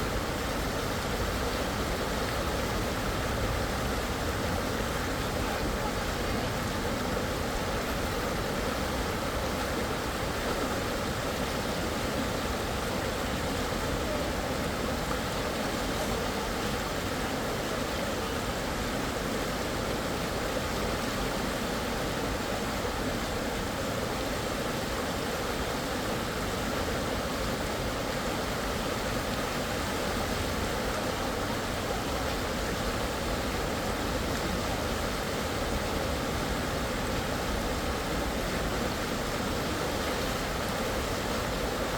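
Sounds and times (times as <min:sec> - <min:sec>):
river rushing over rapids: 0:00.0 - 0:41.9.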